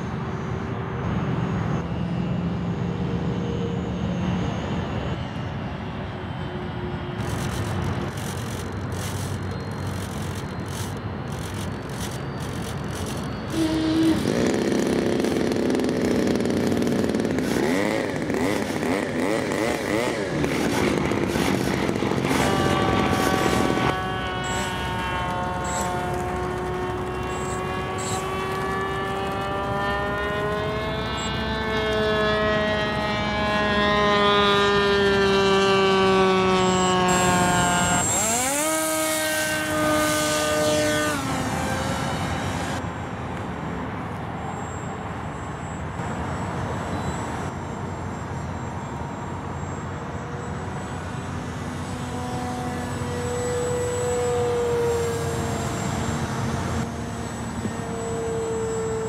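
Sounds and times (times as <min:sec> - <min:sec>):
model plane motor and propeller: 0:00.0 - 0:59.0.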